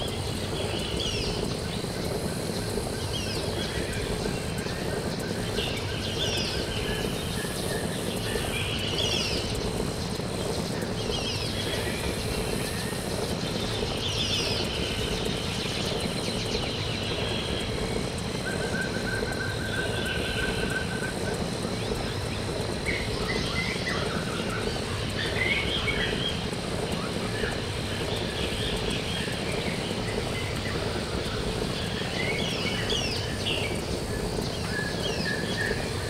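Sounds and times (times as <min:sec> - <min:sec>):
birds chirping: 0:00.0 - 0:36.0
steady rushing noise: 0:00.0 - 0:36.0.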